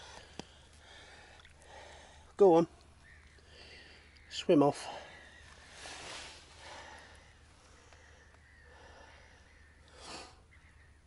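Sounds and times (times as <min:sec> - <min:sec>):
faint outdoor hiss: 0:00.0 - 0:11.0.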